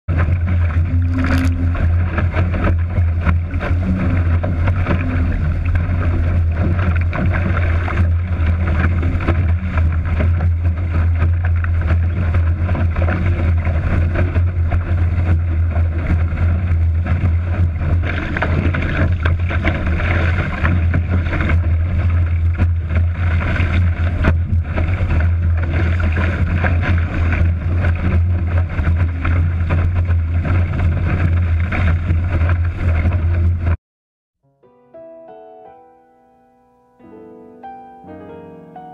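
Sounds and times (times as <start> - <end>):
water rushing along hull: 0.1 - 33.8.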